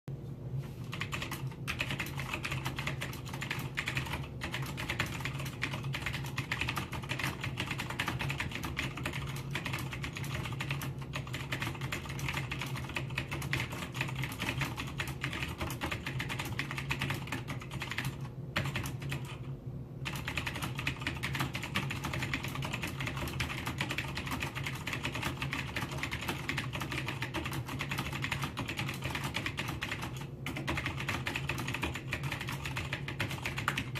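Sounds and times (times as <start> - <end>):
clicky mechanical keyboard typing: 0.8 - 33.9.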